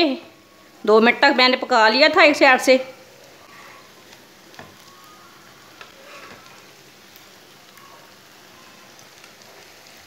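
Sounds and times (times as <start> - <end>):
hot oil sizzling in a pan: 0.0 - 10.0.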